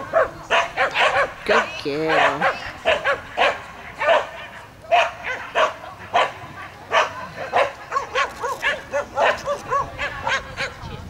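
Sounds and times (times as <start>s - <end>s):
small dog barking: 0.0s - 10.9s.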